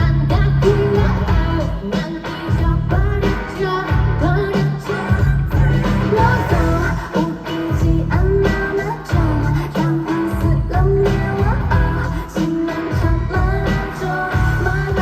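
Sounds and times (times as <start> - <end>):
live pop music with bass beat: 0.0 - 15.0
person singing: 0.0 - 15.0.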